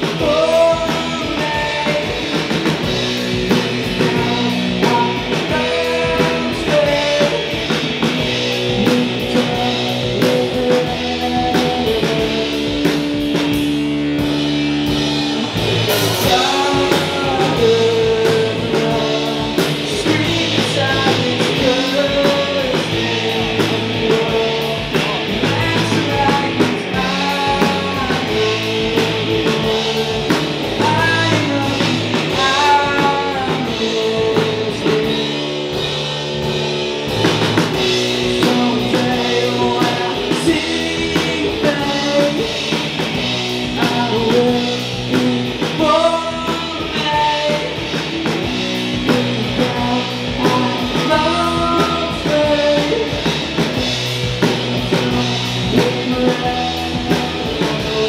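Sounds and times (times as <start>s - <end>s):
lead vocalist singing: 0.0s - 14.3s, 15.3s - 35.9s, 37.1s - 58.0s
distorted electric guitars: 0.0s - 58.0s
drum kit: 0.0s - 58.0s.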